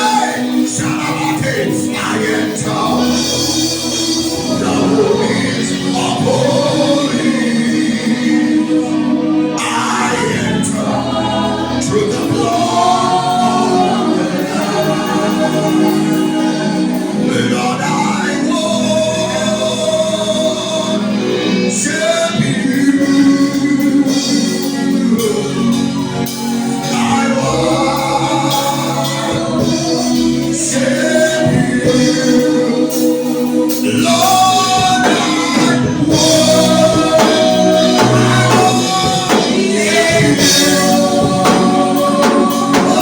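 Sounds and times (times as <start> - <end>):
slow worship song singing: 0.0 - 43.0
sustained instrumental chords: 0.0 - 43.0.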